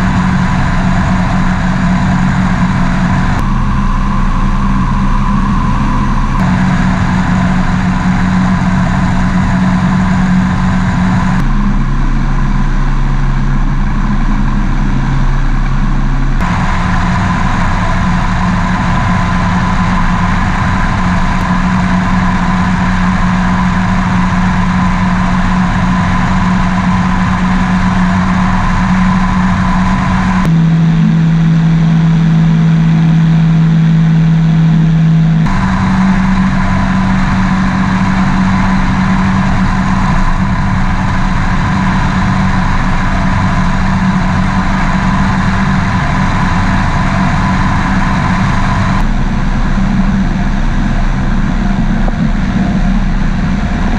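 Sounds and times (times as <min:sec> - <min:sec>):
aircraft engine running: 0:00.0 - 0:53.9
rushing wind: 0:00.0 - 0:53.9.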